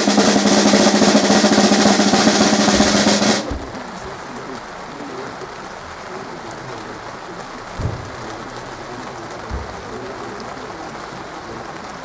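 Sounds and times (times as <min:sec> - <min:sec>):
rain on umbrellas and pavement: 0:00.0 - 0:12.0.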